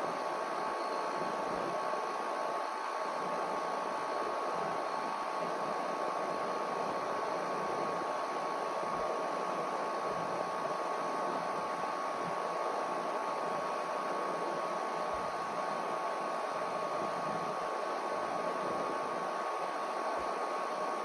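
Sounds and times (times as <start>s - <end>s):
air conditioner fan running: 0.0s - 21.0s
faint constant whine: 0.0s - 21.0s.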